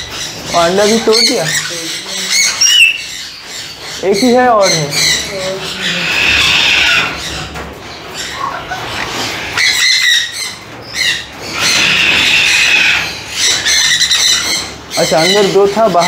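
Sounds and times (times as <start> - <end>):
parrots screeching: 0.0 - 16.0.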